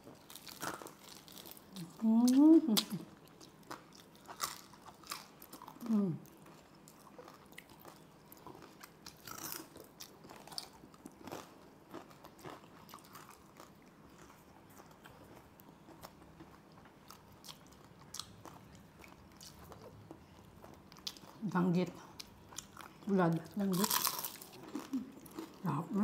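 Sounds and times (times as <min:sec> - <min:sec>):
person chewing crispy food: 0:00.0 - 0:21.4, 0:22.0 - 0:25.6.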